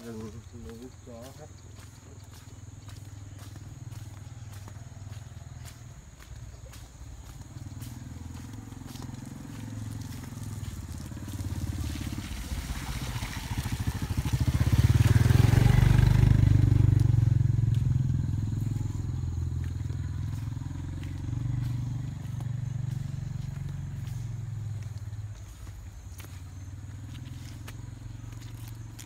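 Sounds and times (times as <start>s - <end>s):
motorbike engine passing: 0.0s - 29.0s.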